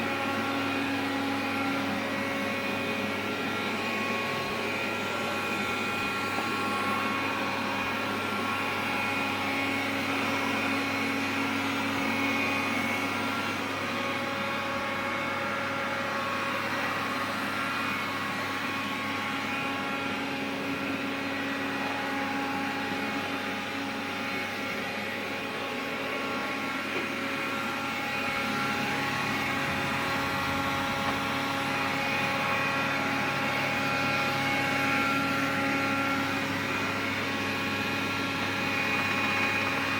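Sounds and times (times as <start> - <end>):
steady whining tones: 0.0 - 39.4
robot vacuum fan whirring: 0.0 - 39.9.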